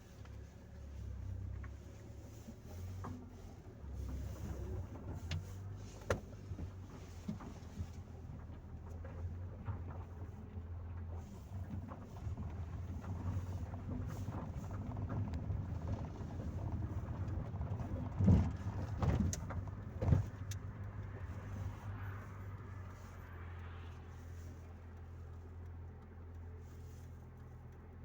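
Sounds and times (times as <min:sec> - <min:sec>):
car engine and road hum: 0:00.0 - 0:28.0.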